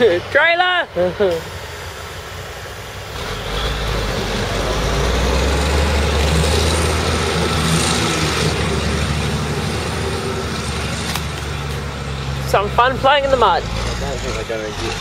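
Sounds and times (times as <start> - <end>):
truck engine running under load: 1.0 - 15.0.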